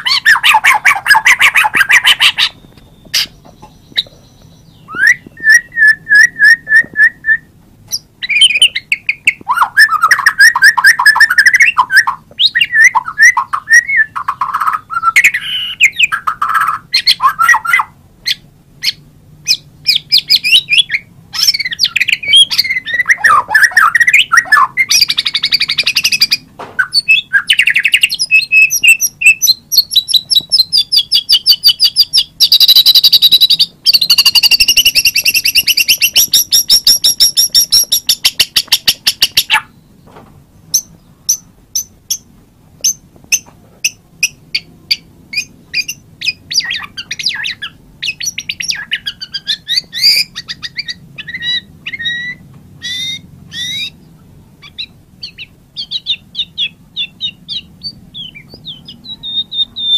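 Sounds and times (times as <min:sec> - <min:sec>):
bird singing whistled notes: 0:00.0 - 0:40.0, 0:40.7 - 0:54.0, 0:54.6 - 0:59.9.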